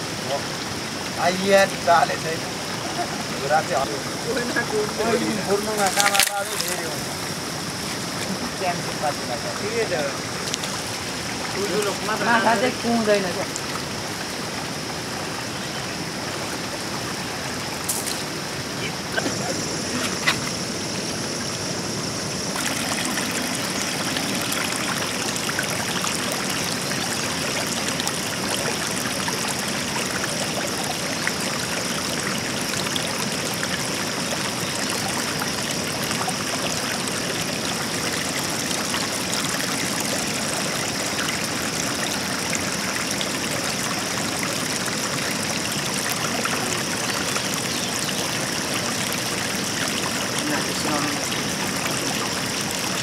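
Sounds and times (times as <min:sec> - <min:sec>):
river water rushing over rocks: 0:00.0 - 0:53.0.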